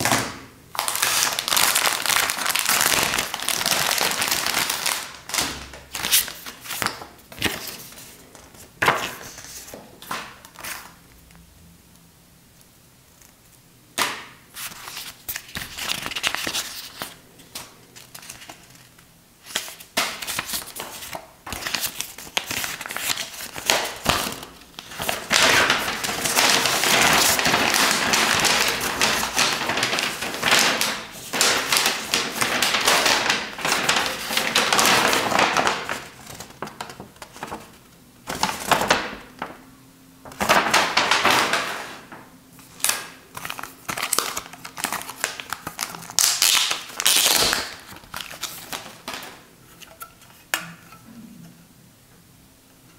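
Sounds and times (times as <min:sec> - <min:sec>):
paper rustling and crinkling: 0:00.8 - 0:11.0, 0:14.6 - 0:39.6, 0:40.2 - 0:50.4.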